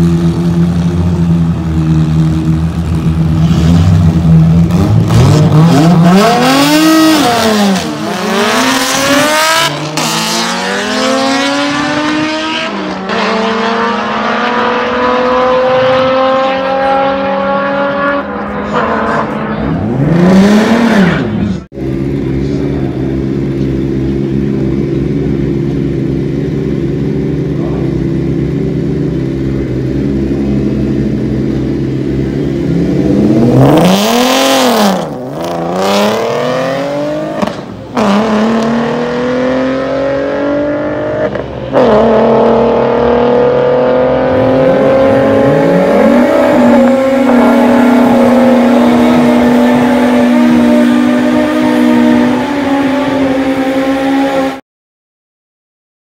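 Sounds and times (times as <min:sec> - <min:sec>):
racing car engines at full throttle: 0:00.0 - 0:54.6.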